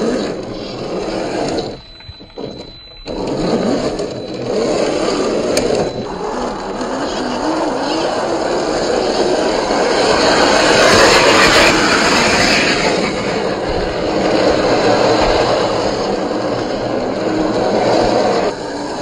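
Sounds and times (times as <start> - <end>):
toy car motor and gears running: 0.0 - 19.0.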